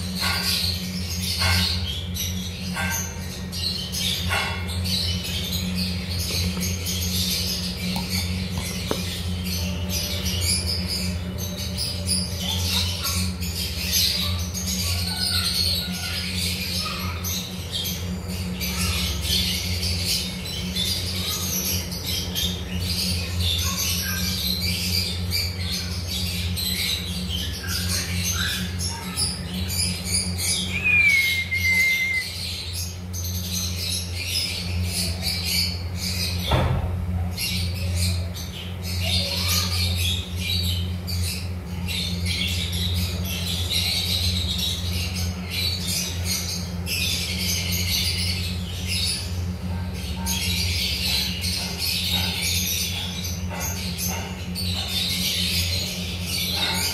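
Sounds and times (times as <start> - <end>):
birds chirping and squawking: 0.0 - 56.9
steady low hum: 0.0 - 56.9.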